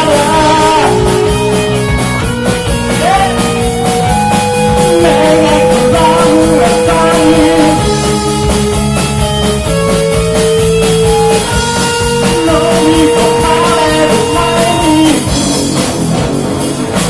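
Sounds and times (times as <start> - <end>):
bending guitar melody: 0.0 - 17.0
rock band playing live: 0.0 - 17.0.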